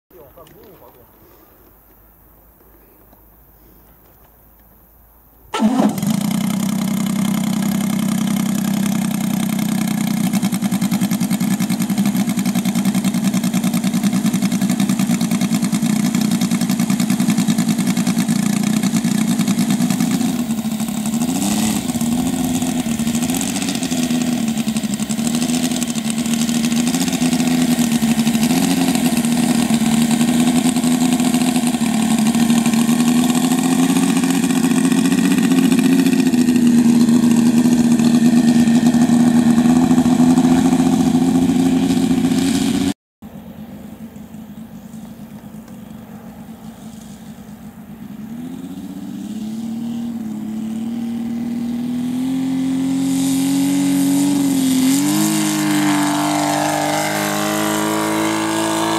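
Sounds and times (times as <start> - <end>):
model aircraft engine idling: 5.5 - 58.9.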